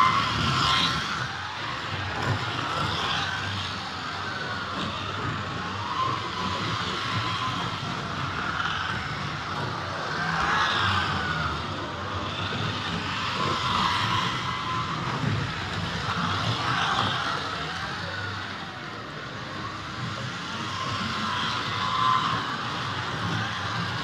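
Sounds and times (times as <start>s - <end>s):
slot car motors whining: 0.0s - 24.0s.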